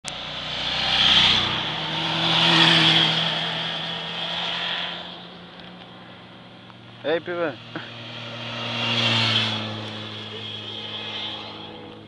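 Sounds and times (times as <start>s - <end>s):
motorcycles riding past: 0.1s - 12.0s.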